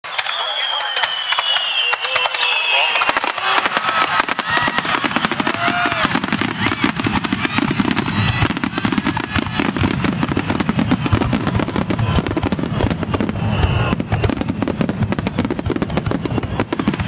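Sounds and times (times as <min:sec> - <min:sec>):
fireworks bursts and bangs: 0:00.0 - 0:17.0.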